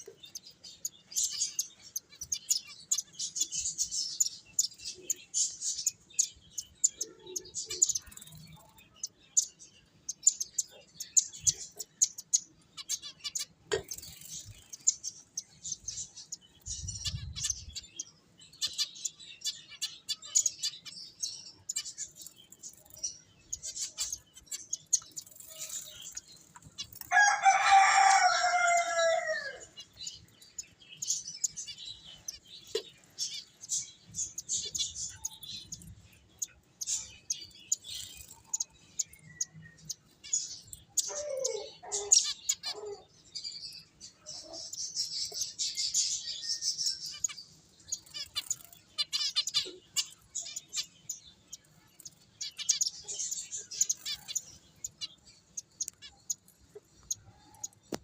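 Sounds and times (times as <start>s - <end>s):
finches chirping: 0.0s - 27.6s, 28.2s - 58.0s.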